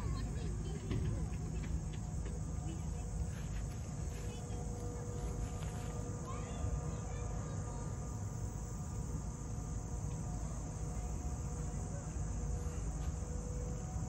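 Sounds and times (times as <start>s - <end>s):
insects chirring: 0.0s - 14.0s
low outdoor rumble: 0.0s - 14.0s.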